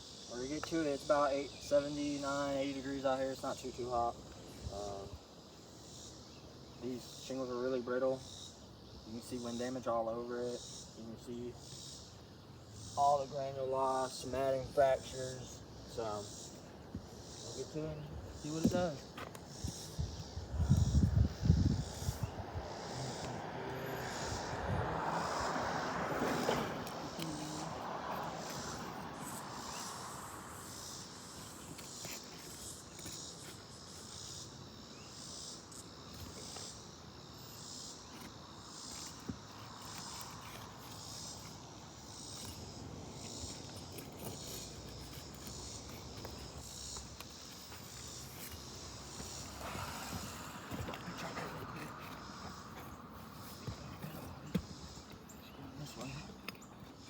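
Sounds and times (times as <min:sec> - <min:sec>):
insects chirping in pulses: 0:00.0 - 0:57.0.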